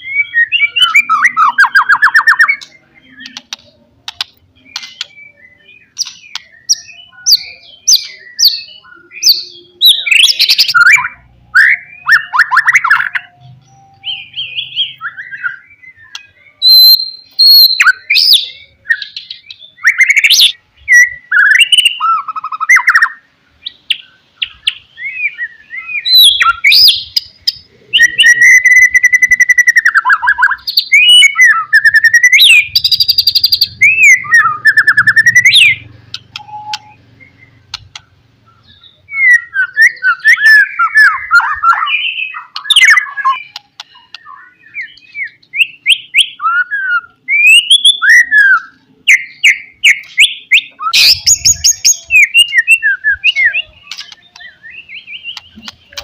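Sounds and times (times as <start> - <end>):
songbird singing whistled phrases: 0.0 - 56.0.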